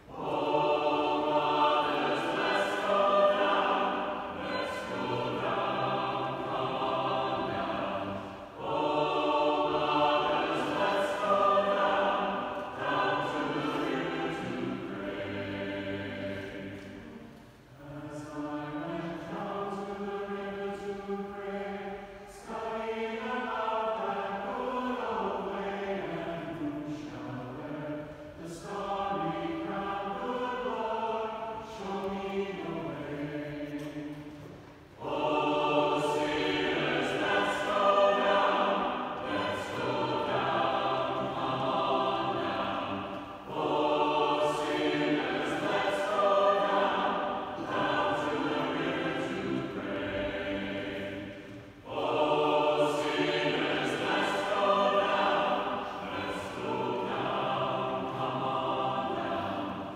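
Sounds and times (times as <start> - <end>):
church choir singing: 0.0 - 59.9.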